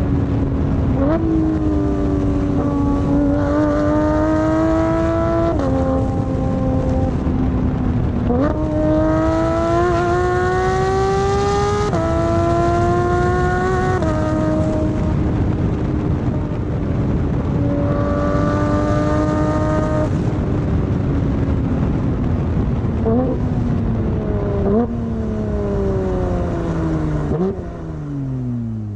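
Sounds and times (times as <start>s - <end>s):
car engine accelerating hard: 0.0s - 28.9s.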